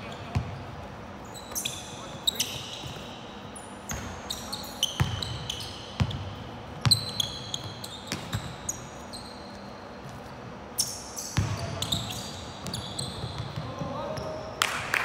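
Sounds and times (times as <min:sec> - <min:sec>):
sneakers squeaking on floor: 0:00.0 - 0:14.6.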